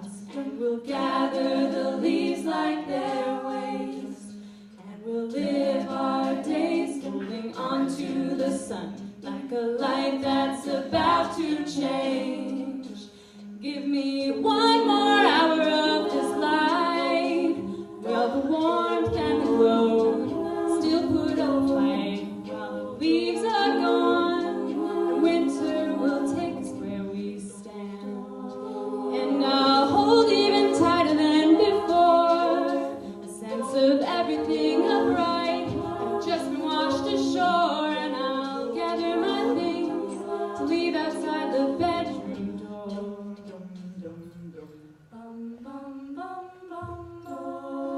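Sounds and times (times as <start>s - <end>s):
a cappella group singing: 0.0s - 47.9s.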